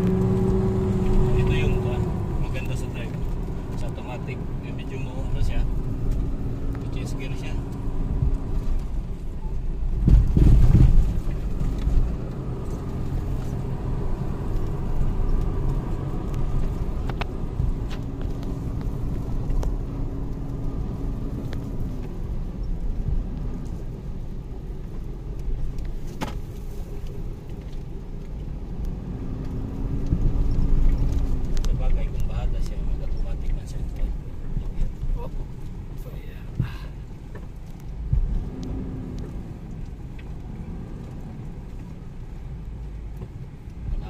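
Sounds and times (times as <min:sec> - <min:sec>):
engine and tyre rumble: 0:00.0 - 0:44.0.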